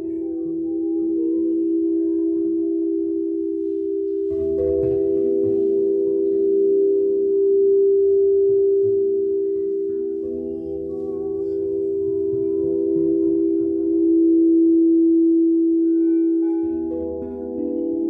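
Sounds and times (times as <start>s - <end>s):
crystal singing bowls ringing: 0.0s - 18.0s.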